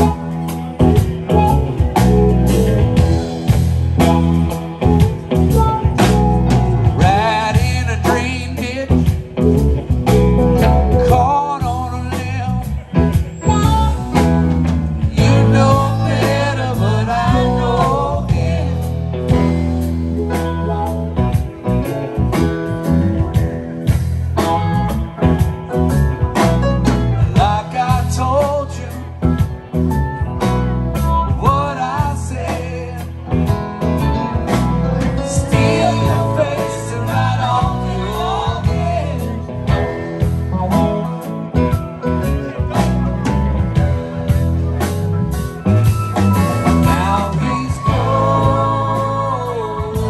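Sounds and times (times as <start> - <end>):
live band playing: 0.0 - 50.0
person singing: 4.0 - 22.0, 26.8 - 50.0.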